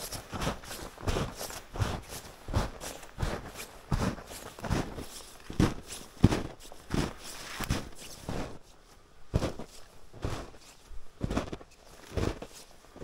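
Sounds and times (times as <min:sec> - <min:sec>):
footsteps in snow: 0:00.0 - 0:13.0.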